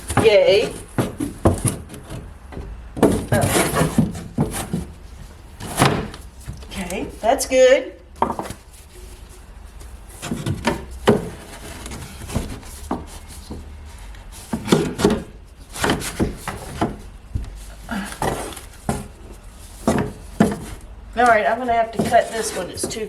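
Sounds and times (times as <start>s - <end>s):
wooden panel knocks and scrapes: 0.0s - 7.4s, 8.2s - 23.0s.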